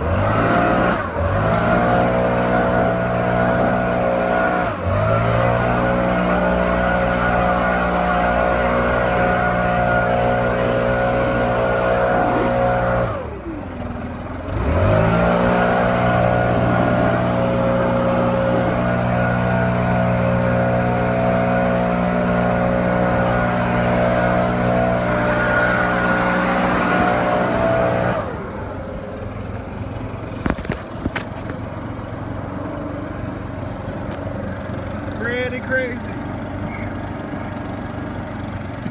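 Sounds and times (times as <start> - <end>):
leaf blower engine revving: 0.0 - 31.4.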